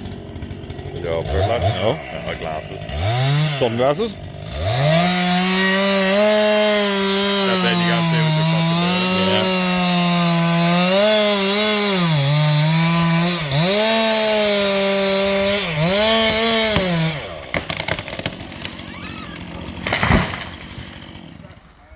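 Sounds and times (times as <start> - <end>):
chainsaw cutting wood: 0.0 - 21.8.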